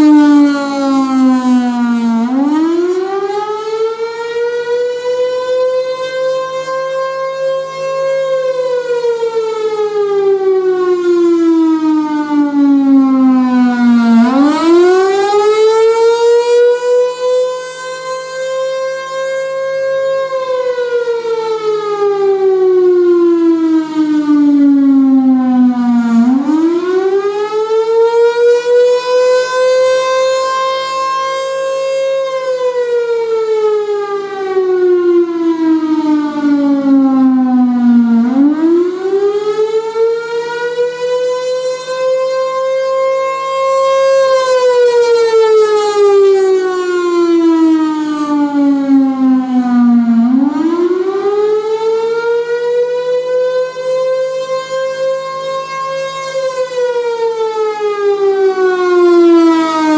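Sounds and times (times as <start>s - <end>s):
civil defense siren: 0.0s - 59.9s.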